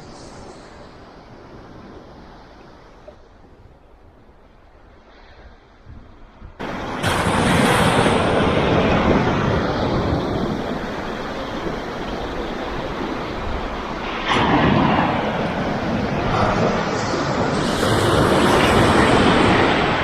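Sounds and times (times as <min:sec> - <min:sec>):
ocean surf on rocks: 0:00.0 - 0:20.0
wind rumbling on microphone: 0:00.0 - 0:20.0.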